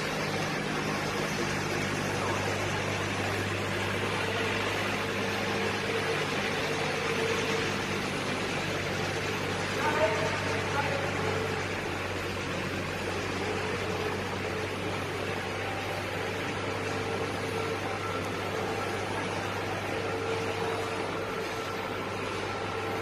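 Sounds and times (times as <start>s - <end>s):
faint machine whine: 0.0s - 23.0s
machine low hum: 0.0s - 23.0s.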